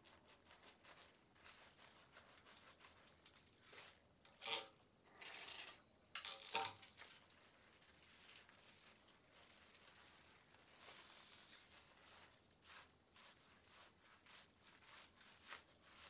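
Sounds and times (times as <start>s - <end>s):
hands rubbing lather in wet hair: 0.0s - 4.1s, 6.9s - 16.0s.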